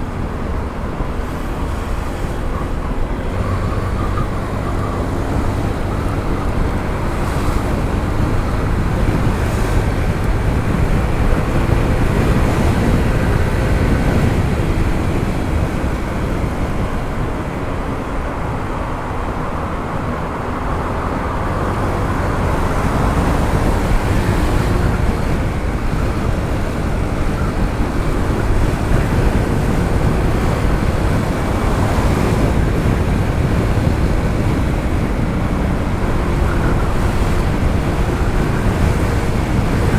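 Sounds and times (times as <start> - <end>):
scooter engine running: 0.0 - 39.9
wind rush on microphone: 0.0 - 39.9.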